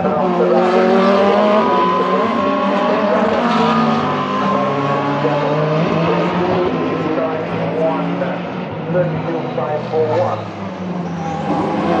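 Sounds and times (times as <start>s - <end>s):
racing car engines: 0.0s - 12.0s.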